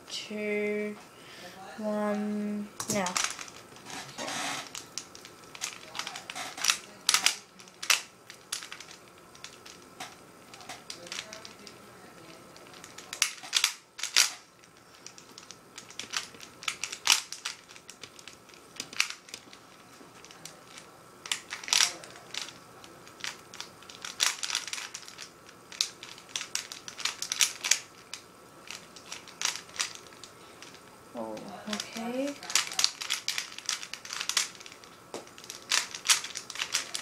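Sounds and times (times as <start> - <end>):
puzzle cube clicking: 4.3 - 11.8, 12.6 - 14.4, 15.0 - 19.5, 20.2 - 30.8, 31.7 - 37.0.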